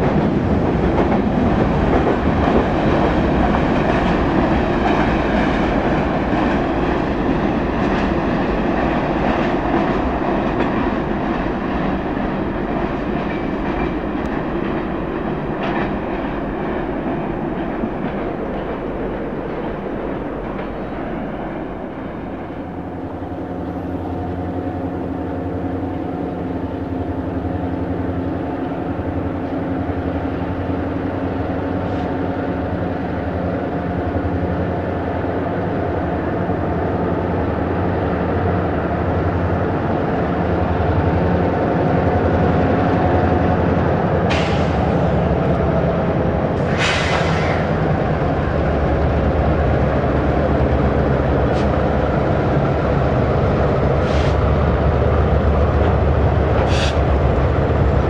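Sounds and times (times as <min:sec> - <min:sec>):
freight train wheels clickety-clack: 0:00.0 - 0:58.0.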